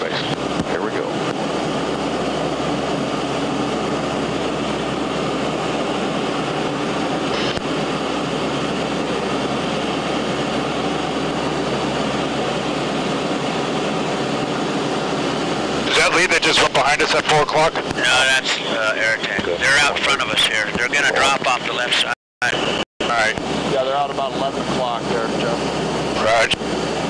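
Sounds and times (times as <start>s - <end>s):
rushing air inside aircraft: 0.0s - 27.0s
turboprop engines droning: 0.0s - 27.0s.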